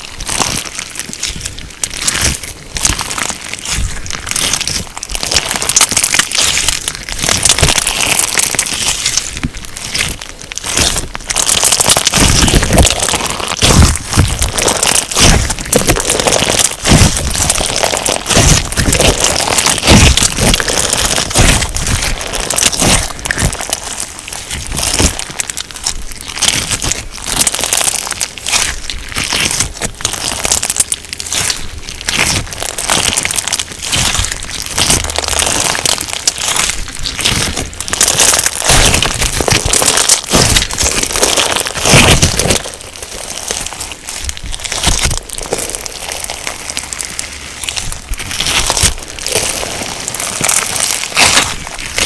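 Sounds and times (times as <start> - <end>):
crunchy slime being squeezed: 0.0 - 52.0.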